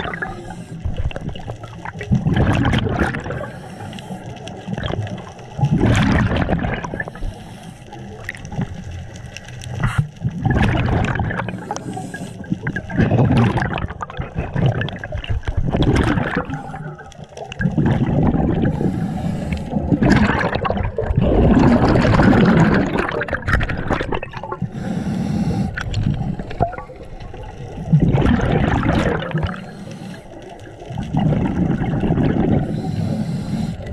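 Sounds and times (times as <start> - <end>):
underwater bubbles gurgling: 0.0 - 33.9.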